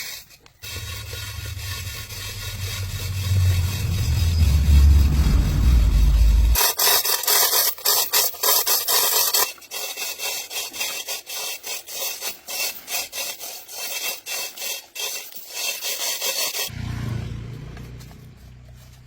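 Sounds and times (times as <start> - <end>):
rasping scraping on hard surface: 0.0 - 16.7.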